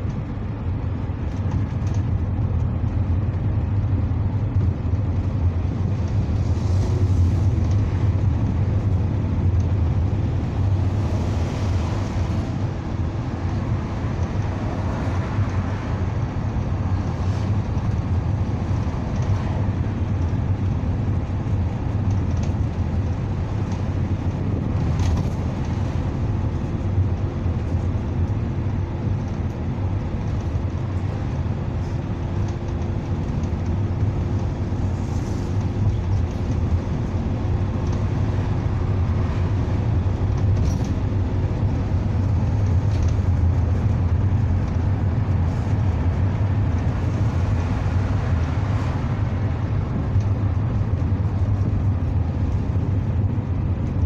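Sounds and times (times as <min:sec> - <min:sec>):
bus engine drone: 0:00.0 - 0:54.0
road and tyre noise: 0:00.0 - 0:54.0.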